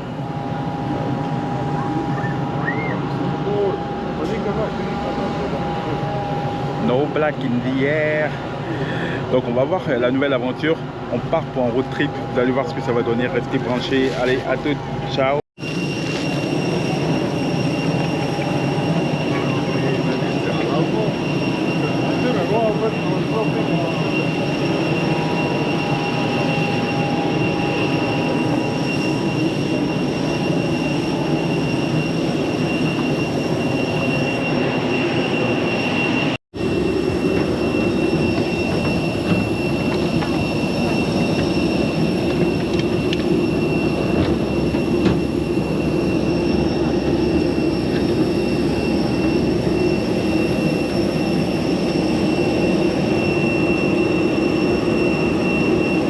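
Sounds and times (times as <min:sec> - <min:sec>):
high whine: 0:00.0 - 0:56.0.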